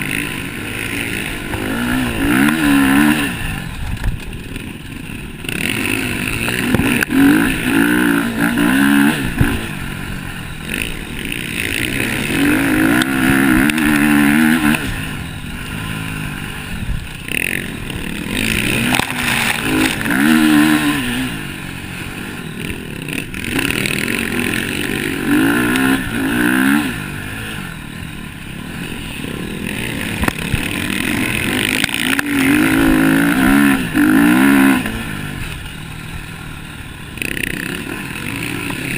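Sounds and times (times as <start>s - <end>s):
motocross engines revving: 0.0s - 38.9s.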